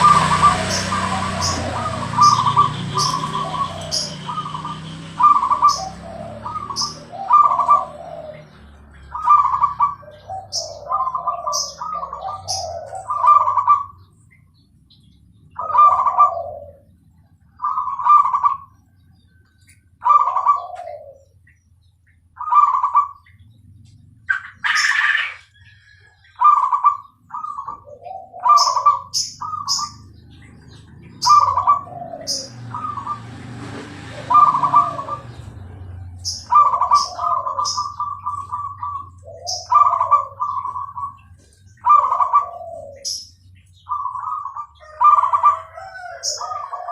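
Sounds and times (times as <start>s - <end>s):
dove cooing: 0.0s - 14.2s, 15.6s - 19.2s, 20.0s - 21.4s, 22.4s - 23.5s, 24.1s - 46.9s.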